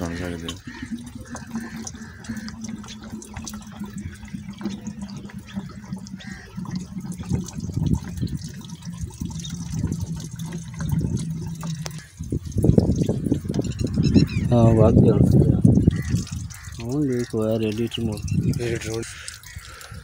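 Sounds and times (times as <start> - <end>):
water gurgling and splashing: 0.0 - 20.0.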